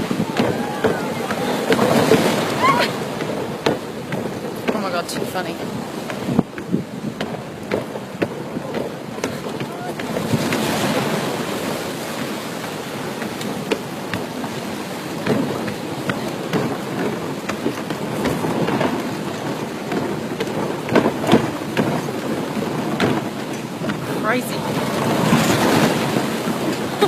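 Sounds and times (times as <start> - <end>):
sea waves splashing: 0.0 - 27.0
wind buffeting microphone: 0.0 - 27.0.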